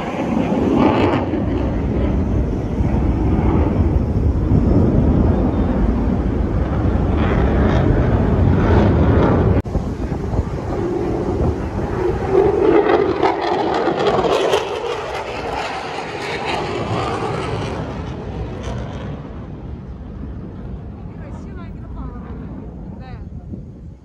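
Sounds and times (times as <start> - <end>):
aircraft engine flying past: 0.0 - 24.0.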